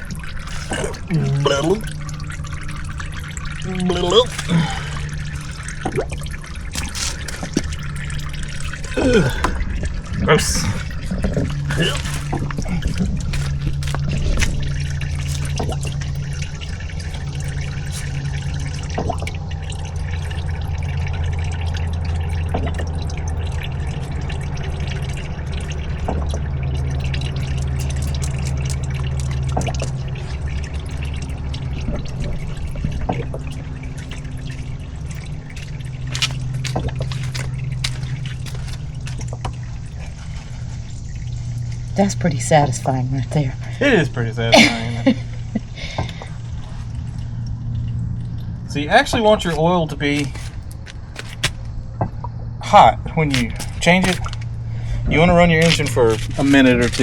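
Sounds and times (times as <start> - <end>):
low hum: 0.0 - 57.0
oil dripping: 0.0 - 57.0
oil pouring trickle: 0.0 - 57.0.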